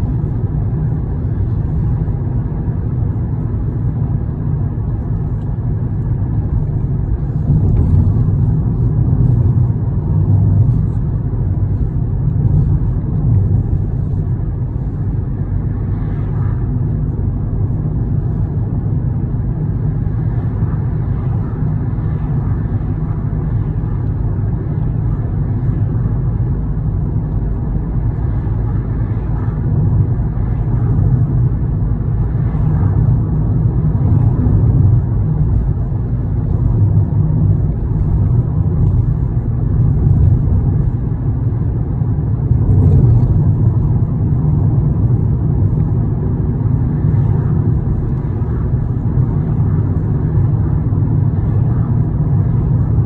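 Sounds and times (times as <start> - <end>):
road vehicle rumble: 0.0 - 53.0.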